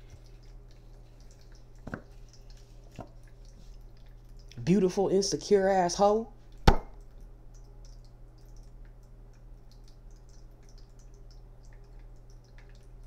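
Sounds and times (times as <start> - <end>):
faint small ticks and clicks: 0.0 - 4.6, 6.5 - 13.0
low electrical hum: 0.0 - 13.0.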